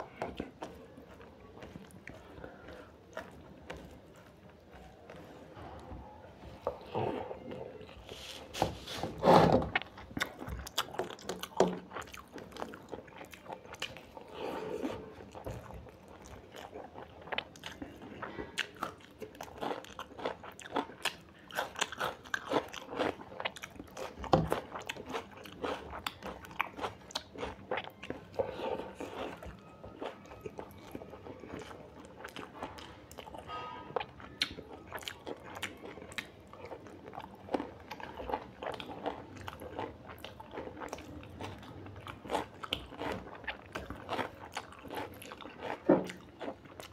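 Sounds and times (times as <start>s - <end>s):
person chewing: 0.0s - 46.9s.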